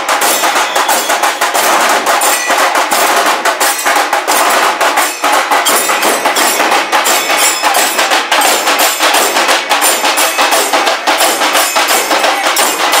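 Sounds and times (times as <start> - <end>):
frame drums beaten in fast rhythm: 0.0 - 13.0.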